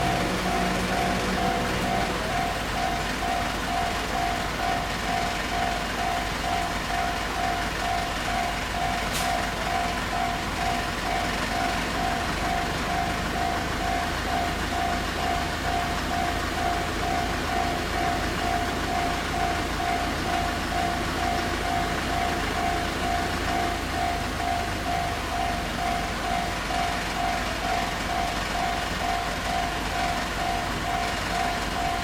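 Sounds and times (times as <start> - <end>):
level crossing warning bell ringing: 0.0 - 32.0.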